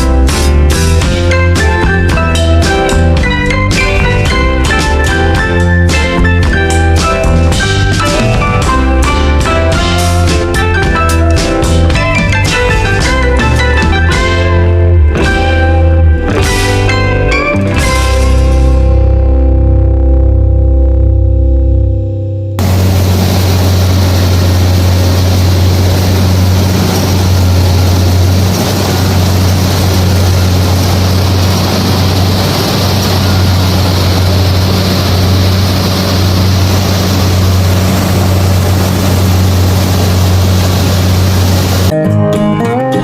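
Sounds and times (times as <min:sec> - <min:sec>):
combine harvester running: 0:00.0 - 0:19.2, 0:22.6 - 0:41.9.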